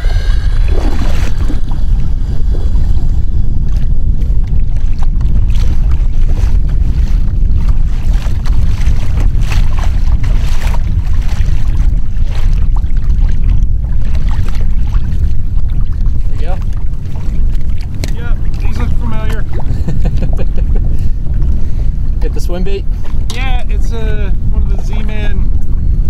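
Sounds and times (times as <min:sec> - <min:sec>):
water splashing against hull: 0:00.0 - 0:26.0
wind buffeting microphone: 0:00.0 - 0:26.0.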